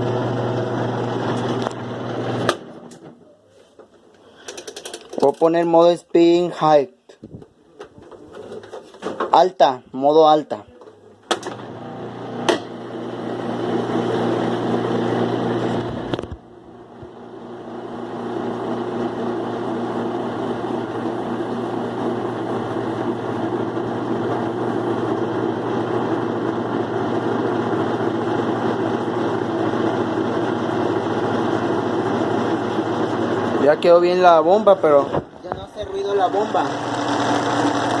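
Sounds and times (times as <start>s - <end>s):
washing machine motor hum: 0.0s - 6.5s, 9.6s - 38.0s.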